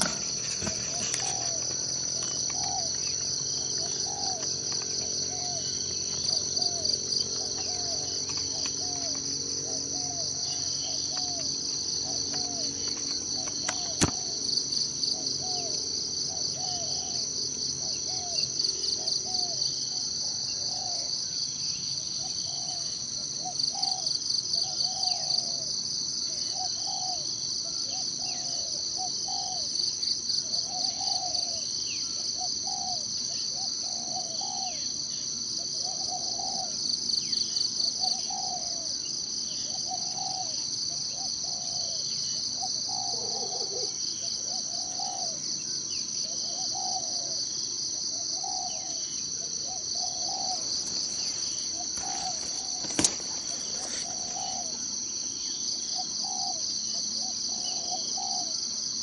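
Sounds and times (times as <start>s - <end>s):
pulsing insect chorus: 0.0s - 59.0s.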